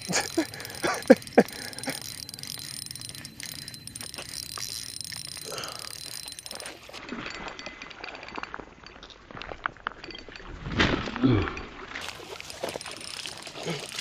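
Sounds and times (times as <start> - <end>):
fishing reel clicks and rustles: 0.0 - 10.8, 11.9 - 14.0.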